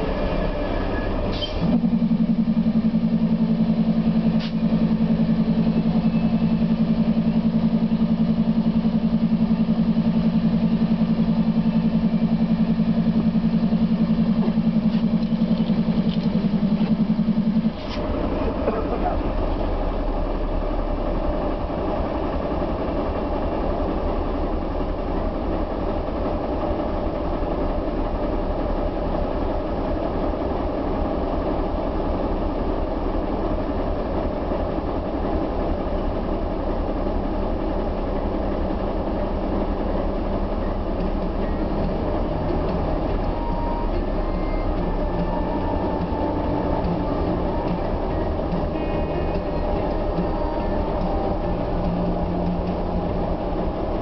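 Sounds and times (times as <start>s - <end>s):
diesel locomotive idling: 0.0s - 54.0s.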